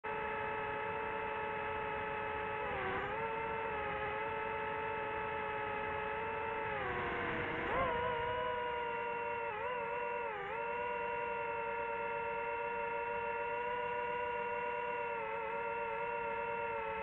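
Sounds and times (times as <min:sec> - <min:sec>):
drone propellers whining: 0:00.1 - 0:17.0.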